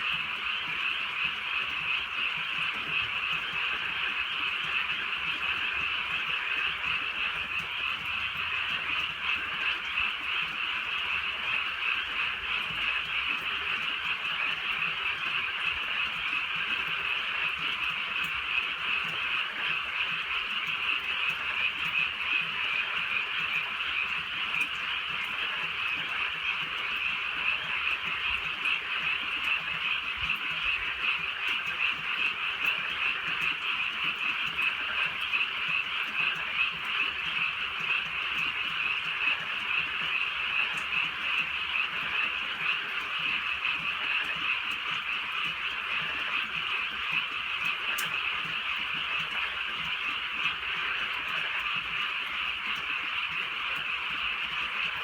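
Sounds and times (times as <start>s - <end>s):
chorus of frogs calling: 0.0s - 55.0s.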